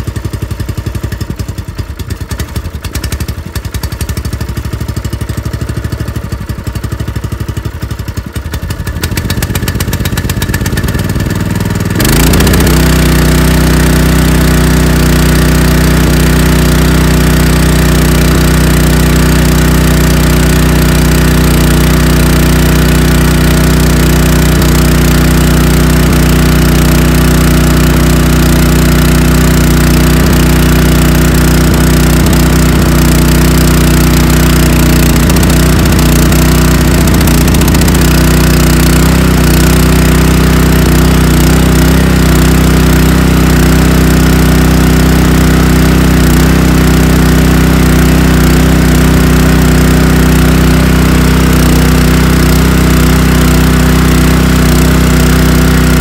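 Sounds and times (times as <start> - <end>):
small gasoline pump engine running: 0.0 - 56.0.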